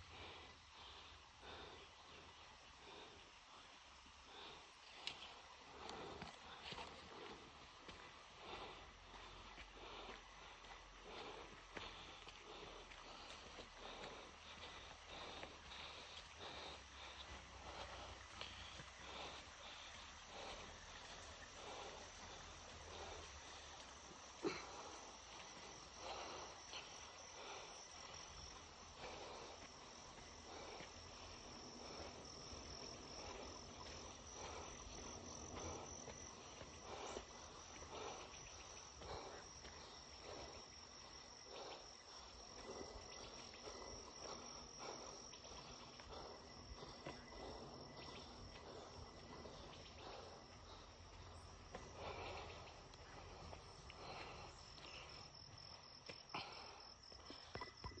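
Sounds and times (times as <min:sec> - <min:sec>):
footsteps on dirt trail: 0:04.3 - 0:58.0.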